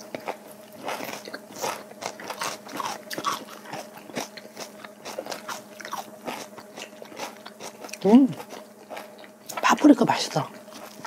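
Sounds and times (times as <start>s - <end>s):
crunching raw vegetables: 0.0s - 9.8s, 10.6s - 11.0s.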